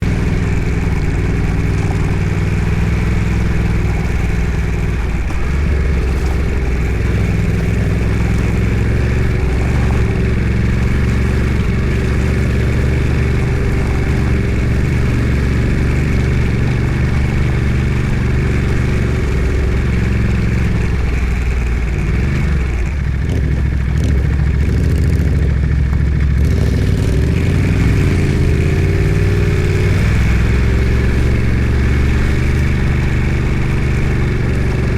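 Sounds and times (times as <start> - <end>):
vehicle engine at low revs: 0.0 - 34.9.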